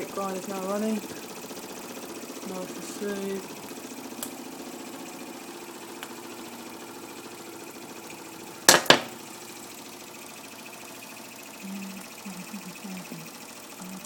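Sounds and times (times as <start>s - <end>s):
toy steam engine chuffing: 0.0s - 14.0s.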